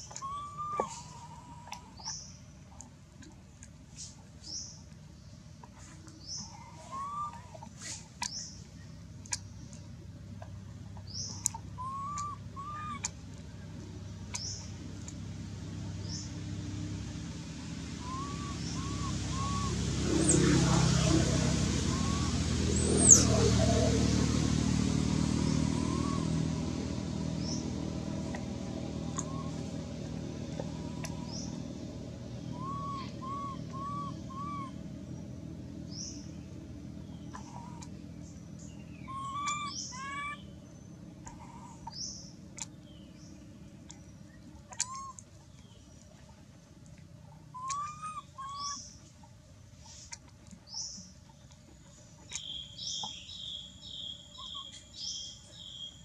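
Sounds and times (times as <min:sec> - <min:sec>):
birds chirping: 0:00.0 - 0:02.7, 0:04.4 - 0:16.6, 0:17.7 - 0:46.4, 0:47.4 - 0:49.2, 0:49.9 - 0:56.0
vehicle engine hum: 0:00.0 - 0:56.0.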